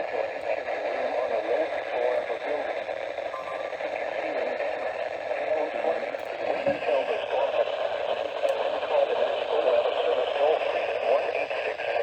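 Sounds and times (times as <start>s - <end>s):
muffled radio voice: 0.1s - 12.0s.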